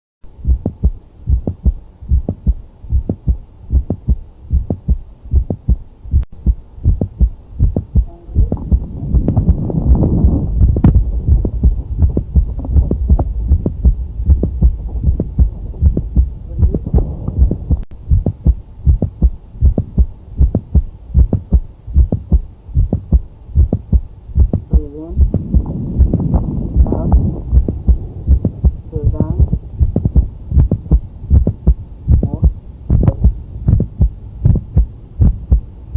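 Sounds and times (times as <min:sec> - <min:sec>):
low noise: 0:00.2 - 0:35.9
heartbeat through stethoscope: 0:00.3 - 0:35.7.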